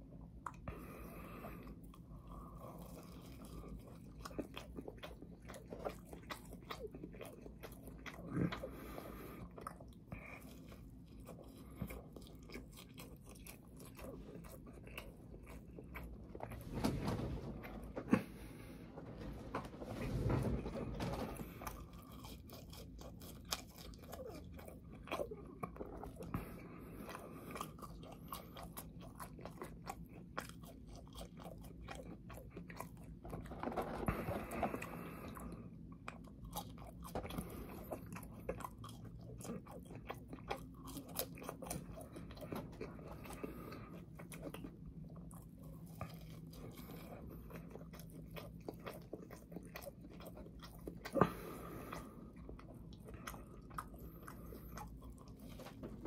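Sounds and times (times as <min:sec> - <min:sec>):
chewing crunchy fries: 0:00.0 - 0:56.0.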